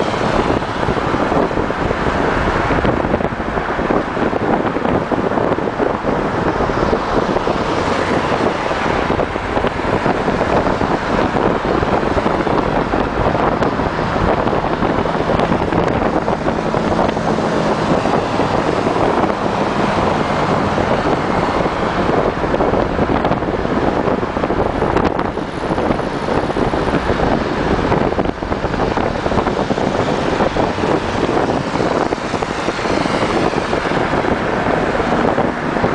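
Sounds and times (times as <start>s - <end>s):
vehicle road and engine noise: 0.0s - 35.9s
wind rushing on the microphone: 0.0s - 35.9s.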